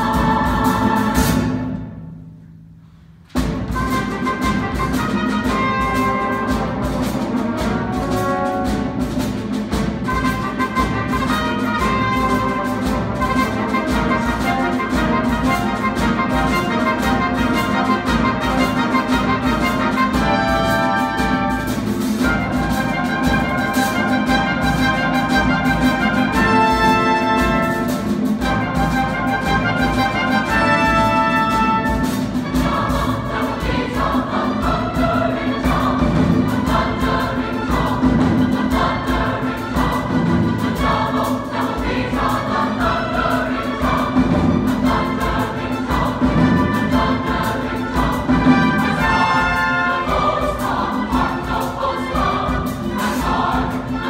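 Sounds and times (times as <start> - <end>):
choir singing: 0.0 - 2.1, 3.7 - 54.0
orchestral chords: 0.0 - 54.0.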